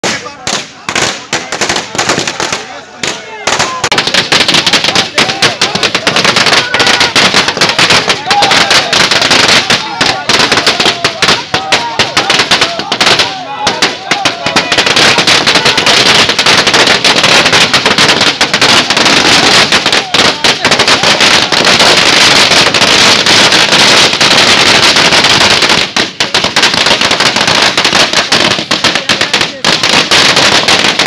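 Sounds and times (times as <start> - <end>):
crowd shouting: 0.0 - 29.7
firecrackers going off: 0.0 - 31.0.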